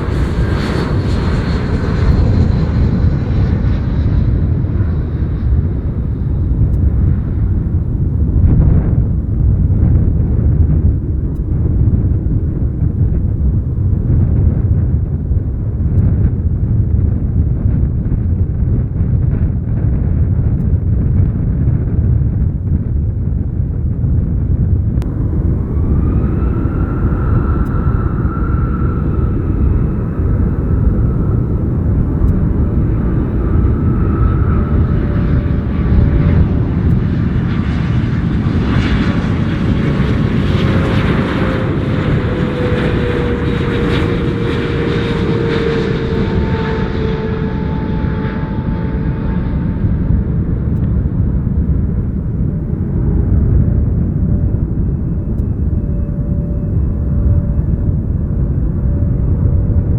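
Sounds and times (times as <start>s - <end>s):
jet engine whine: 0.0s - 59.9s
low rumble: 0.0s - 59.9s
rush of jet engine noise: 0.0s - 59.9s.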